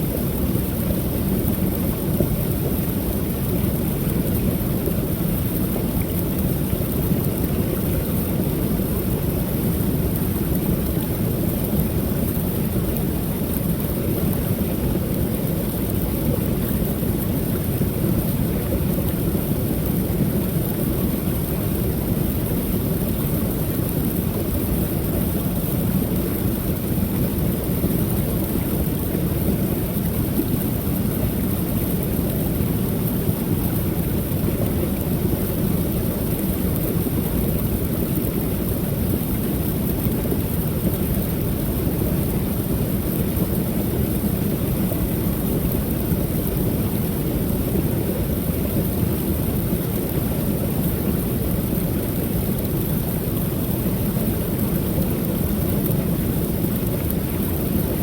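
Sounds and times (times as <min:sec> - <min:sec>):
small waterfall pouring: 0:00.0 - 0:58.0.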